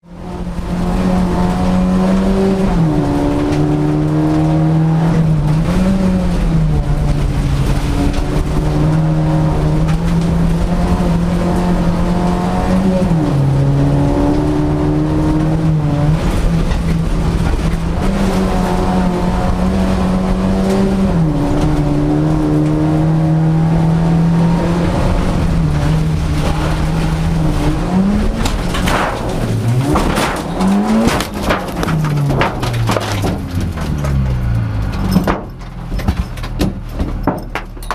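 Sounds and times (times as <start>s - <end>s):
car engine revving hard: 0.1s - 35.5s.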